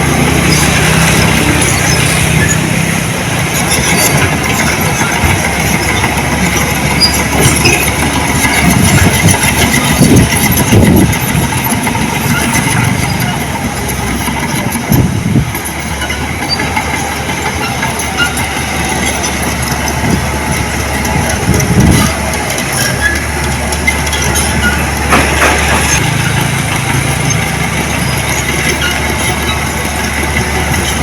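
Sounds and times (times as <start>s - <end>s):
heavy machinery diesel engine rumble: 0.0s - 31.0s.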